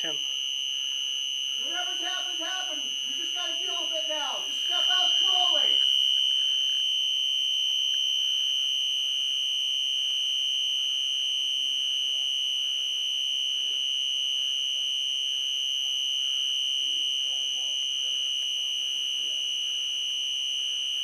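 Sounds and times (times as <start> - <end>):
high-pitched alarm tone: 0.0 - 21.0.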